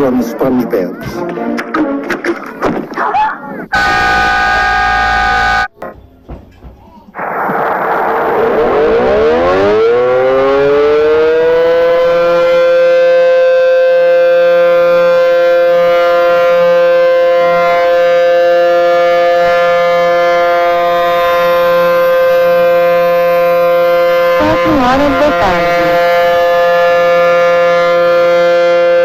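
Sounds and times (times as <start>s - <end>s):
warning siren winding up: 3.7s - 5.7s, 7.2s - 29.0s.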